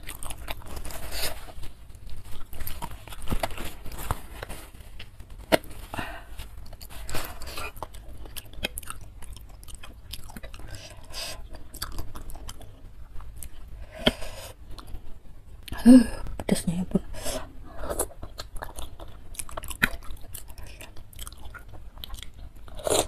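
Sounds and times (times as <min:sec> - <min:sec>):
person chewing noodles: 0:00.0 - 0:15.8, 0:17.6 - 0:23.0.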